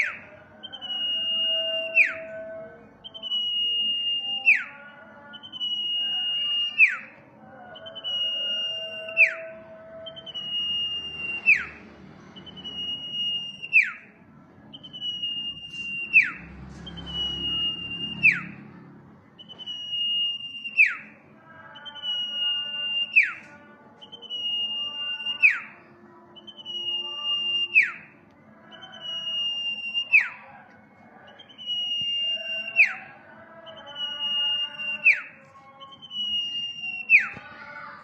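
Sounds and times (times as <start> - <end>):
bird whistling song: 0.0 - 7.1, 7.8 - 9.5, 10.1 - 14.1, 14.7 - 18.6, 19.4 - 37.6.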